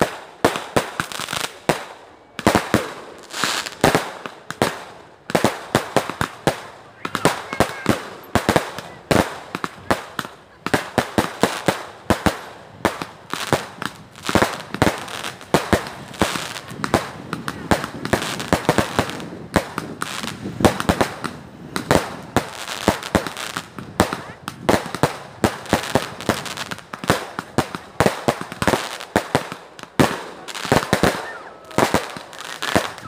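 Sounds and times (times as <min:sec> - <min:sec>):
fireworks bangs and crackling pops: 0:00.0 - 0:33.0.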